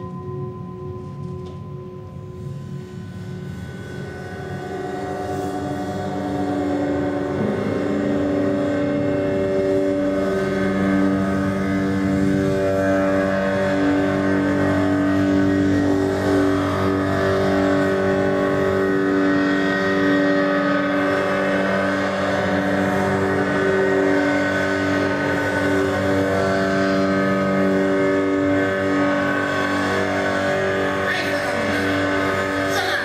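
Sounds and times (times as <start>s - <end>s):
droning sustained chord music: 0.0s - 33.0s.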